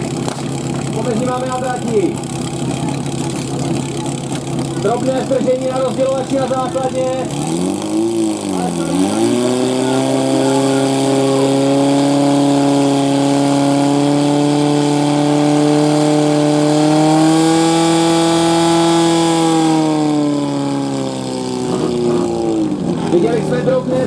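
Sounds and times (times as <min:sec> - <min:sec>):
pump engine running at high revs: 0:00.0 - 0:24.0.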